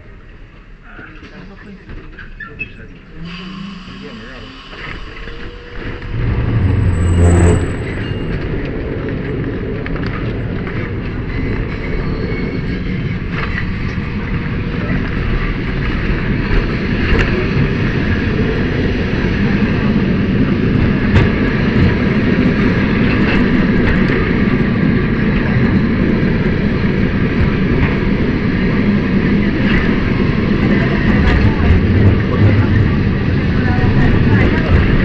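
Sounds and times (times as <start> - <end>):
tram running on rails: 0.0 - 35.0.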